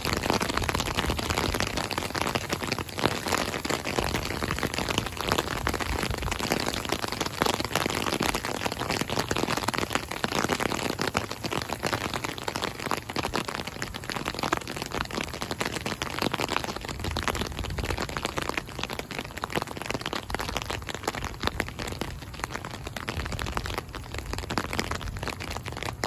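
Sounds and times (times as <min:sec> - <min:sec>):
rain drops clicking: 0:00.0 - 0:26.0.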